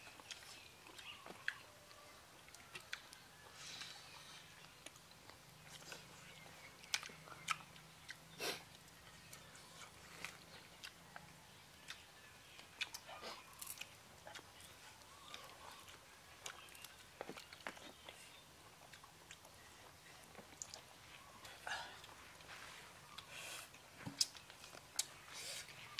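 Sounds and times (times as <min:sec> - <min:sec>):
people chewing: 0:00.0 - 0:25.9.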